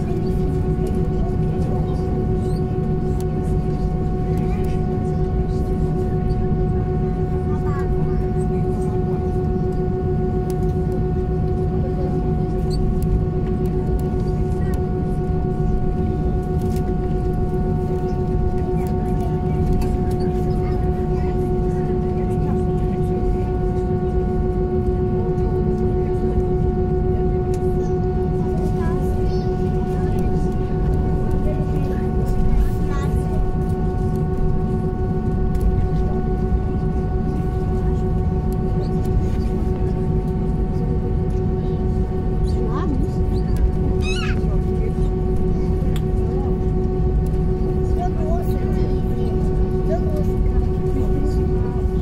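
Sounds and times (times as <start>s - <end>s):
jet engines whining in cabin: 0.0s - 52.0s.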